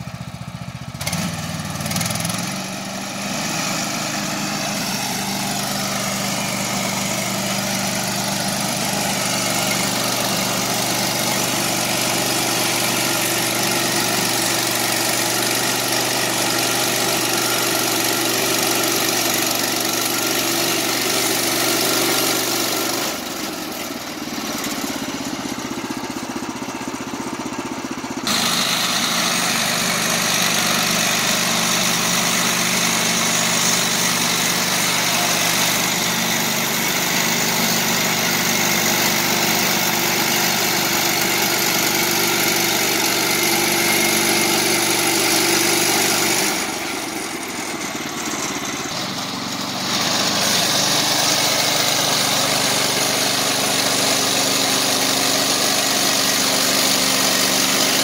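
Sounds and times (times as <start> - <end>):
sawmill gasoline engine running: 0.0 - 58.0.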